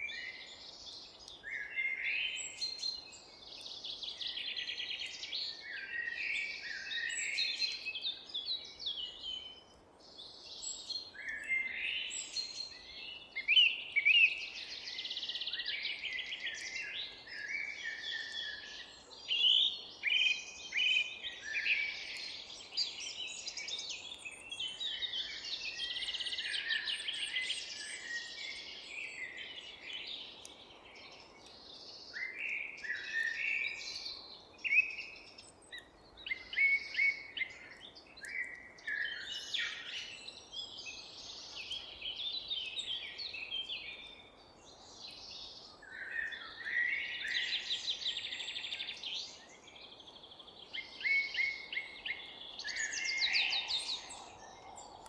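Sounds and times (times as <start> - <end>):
songbirds singing and calling: 0.0 - 55.0.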